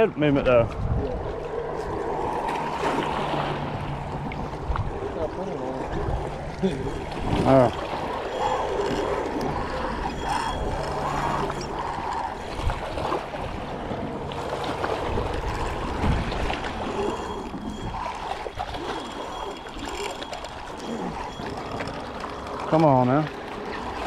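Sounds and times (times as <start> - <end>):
wind rumble on microphone: 0.0 - 19.8
waves lapping against rocks: 0.0 - 24.0.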